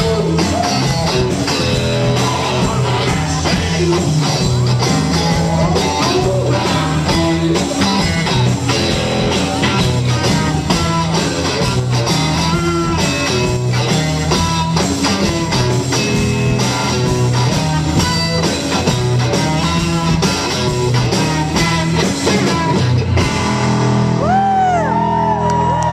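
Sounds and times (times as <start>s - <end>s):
band playing live music: 0.0s - 25.9s
electric guitar: 0.0s - 25.9s.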